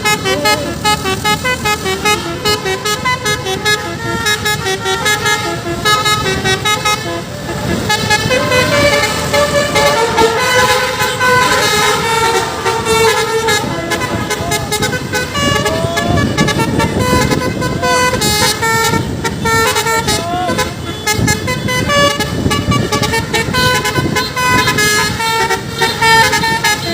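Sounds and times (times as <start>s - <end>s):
multi-tone bus horn melody: 0.0s - 26.9s.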